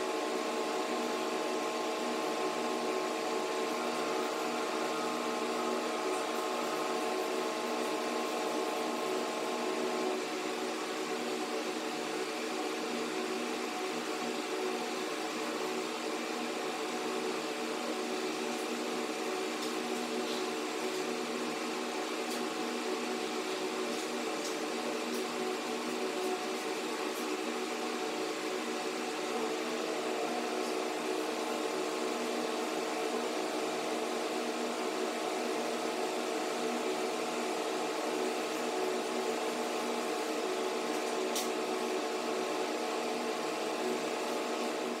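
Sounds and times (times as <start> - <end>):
mechanical hum: 0.0 - 45.0.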